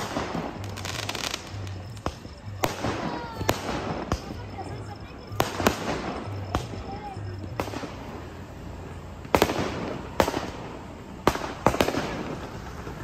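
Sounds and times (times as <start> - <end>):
fireworks bangs echoing: 0.0 - 8.3, 9.2 - 13.0.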